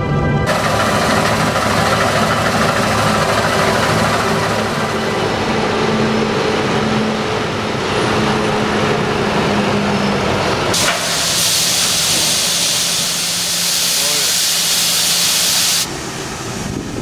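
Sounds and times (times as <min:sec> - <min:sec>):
tractor diesel engine running: 0:00.4 - 0:17.0.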